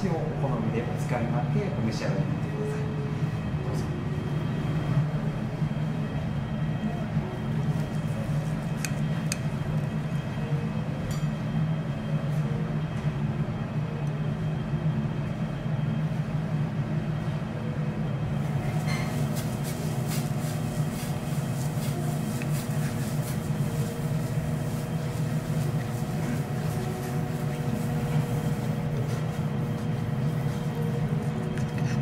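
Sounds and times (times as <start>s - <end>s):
ventilation fan humming: 0.0s - 32.0s.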